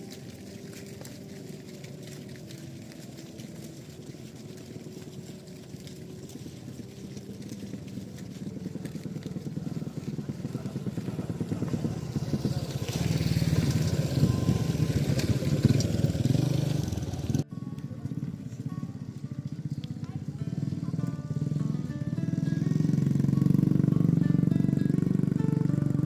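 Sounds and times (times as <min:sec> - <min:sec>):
small engine puttering: 0:00.0 - 0:26.0.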